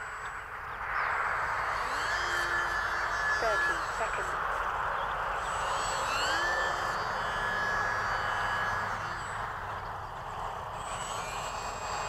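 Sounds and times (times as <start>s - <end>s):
electric model plane propeller whining: 0.0s - 12.0s.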